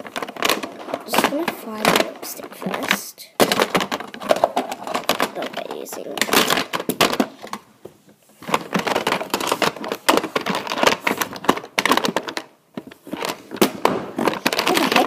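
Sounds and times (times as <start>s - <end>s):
handling clicks and rustles: 0.0s - 15.0s.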